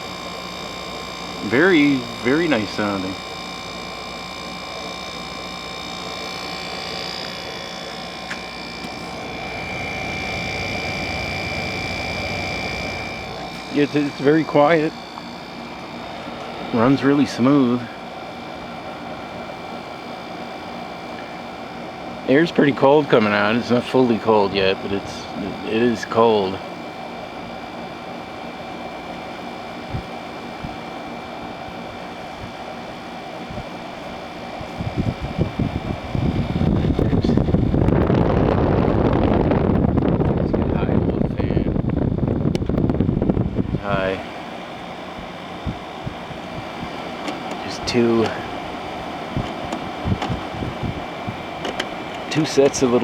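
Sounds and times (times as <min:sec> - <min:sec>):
air conditioner humming: 0:00.0 - 0:53.0.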